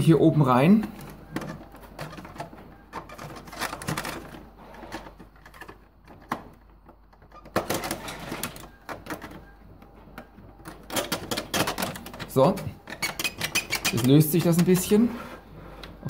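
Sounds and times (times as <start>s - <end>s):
plastic clicks and knocks: 0.8s - 14.9s.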